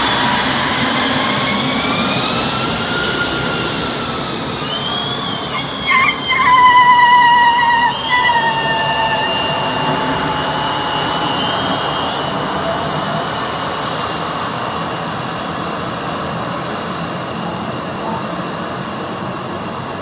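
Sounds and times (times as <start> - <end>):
high jet whine: 0.0 - 20.0
jet engine roar: 0.0 - 20.0.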